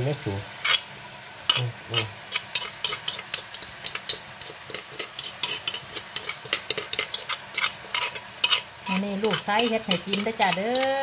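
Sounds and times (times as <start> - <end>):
meat sizzling in a wok: 0.0 - 11.0
utensil scraping cookware: 0.6 - 0.8, 1.5 - 11.0.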